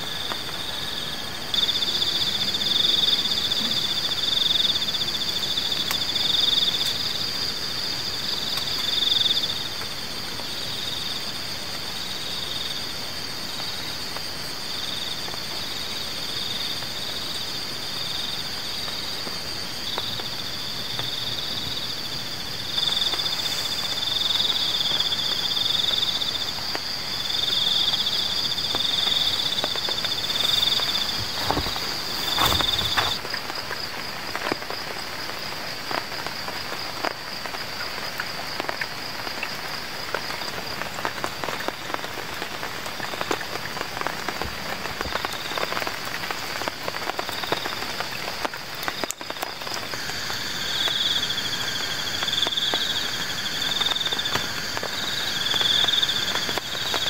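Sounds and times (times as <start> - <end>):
continuous hiss: 0.0 - 57.0
insects and frogs trilling: 0.0 - 57.0.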